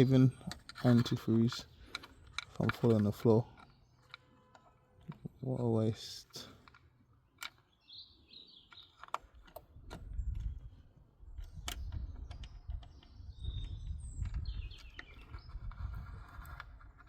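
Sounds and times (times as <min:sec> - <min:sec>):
small clicks and knocks of tools: 0:00.4 - 0:05.4, 0:06.2 - 0:07.8, 0:08.4 - 0:17.0.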